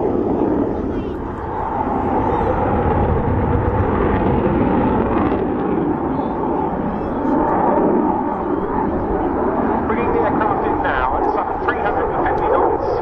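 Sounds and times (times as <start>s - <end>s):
jet fighter flying: 0.0s - 13.0s.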